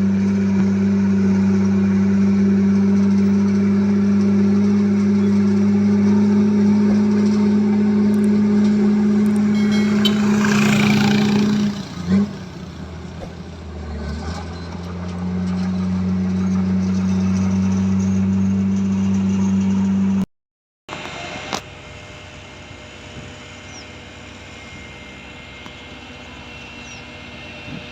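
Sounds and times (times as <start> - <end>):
heavy diesel engine running: 0.0 - 20.2, 20.9 - 27.9.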